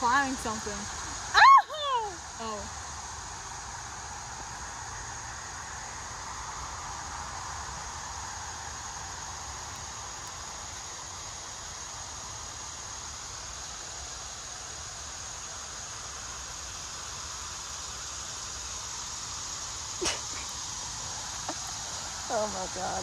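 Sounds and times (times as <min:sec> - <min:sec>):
even hiss: 0:00.0 - 0:23.0
high-pitched insect drone: 0:00.0 - 0:23.0.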